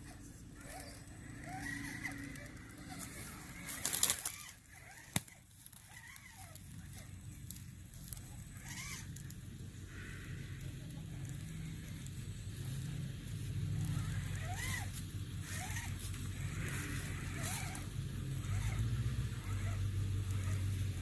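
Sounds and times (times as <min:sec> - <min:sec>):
faint rising and falling calls: 0:00.0 - 0:21.0
dry leaves rustling and crunching: 0:01.6 - 0:20.9.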